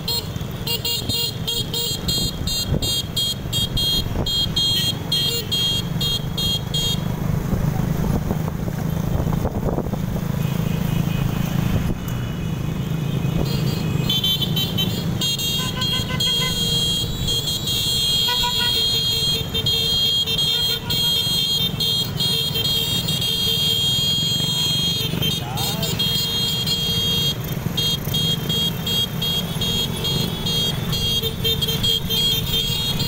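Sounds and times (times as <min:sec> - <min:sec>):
motorcycle engines rumbling: 0:00.0 - 0:33.0.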